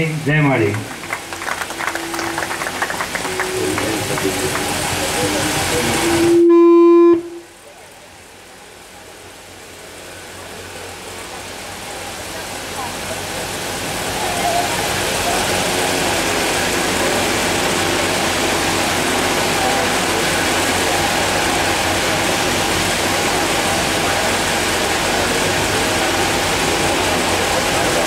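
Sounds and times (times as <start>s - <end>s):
fans rushing: 0.0s - 28.0s
murmur of crowd voices: 0.0s - 28.0s.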